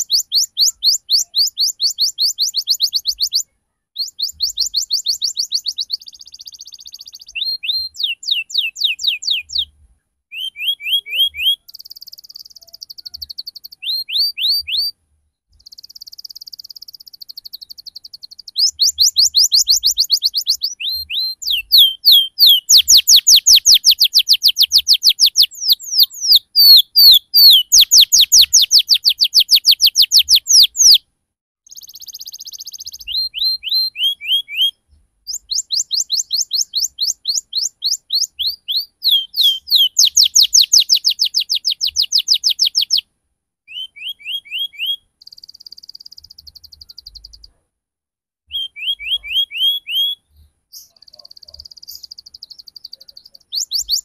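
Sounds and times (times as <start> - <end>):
canary singing rolling song: 0.0 - 31.0, 31.6 - 43.1, 43.7 - 47.6, 48.5 - 54.0.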